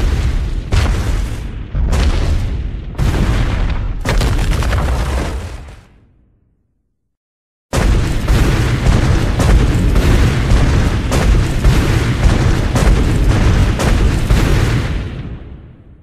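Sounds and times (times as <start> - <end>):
sharp cracks: 0.0 - 5.7, 7.8 - 15.2
explosion booming rumble: 0.0 - 5.9, 7.7 - 16.0.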